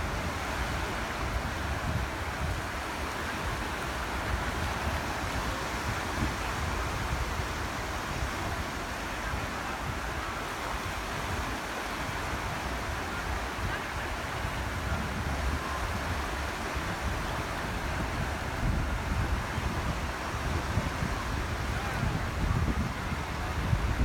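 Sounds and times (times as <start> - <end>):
small waves washing ashore: 0.0 - 24.0
wind rumble on microphone: 0.0 - 24.0.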